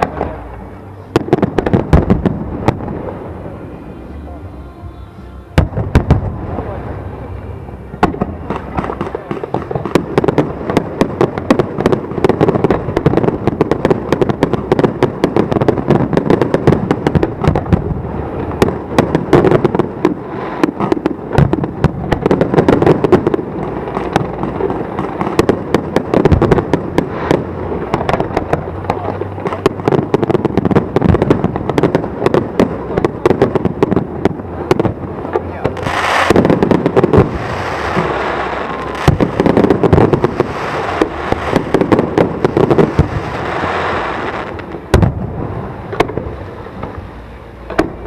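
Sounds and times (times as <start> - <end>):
fireworks cracking and popping: 0.0 - 3.7, 8.0 - 48.0.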